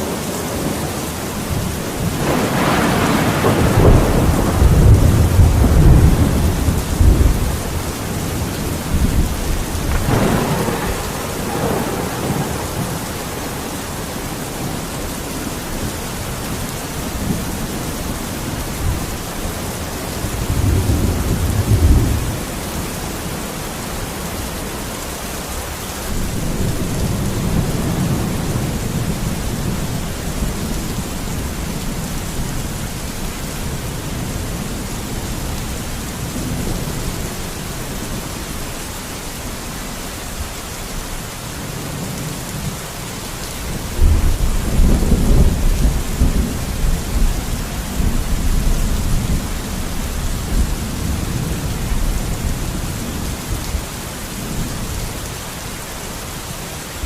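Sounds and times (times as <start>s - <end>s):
thunder rumbling: 0.0s - 23.4s, 26.0s - 38.7s, 43.6s - 55.0s
heavy rain hissing: 0.0s - 57.0s.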